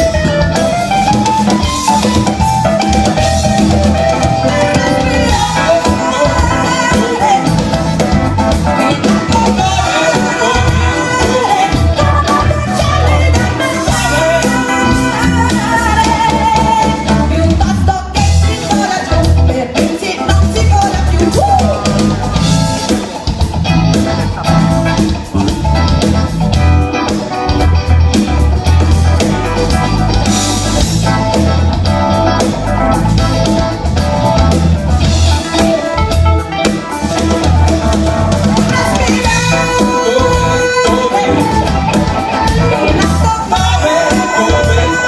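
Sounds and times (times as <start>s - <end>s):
live band playing upbeat song: 0.0s - 45.0s.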